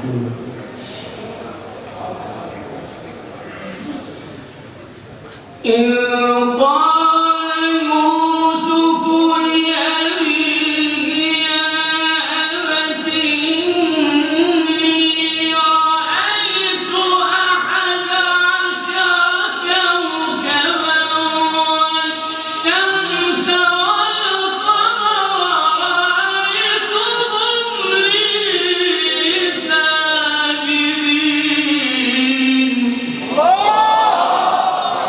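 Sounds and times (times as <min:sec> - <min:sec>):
melodic religious recitation: 0:05.6 - 0:35.0.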